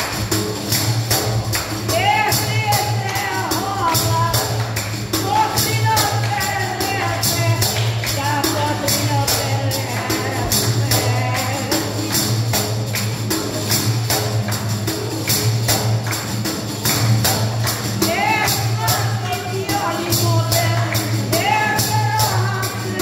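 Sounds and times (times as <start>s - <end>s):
frame drum with jingles: 0.0s - 23.0s.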